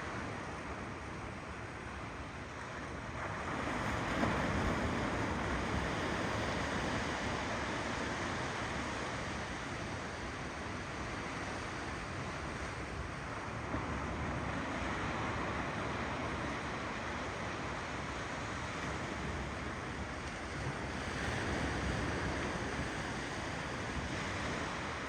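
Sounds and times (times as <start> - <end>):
ocean waves breaking: 2.6 - 25.0.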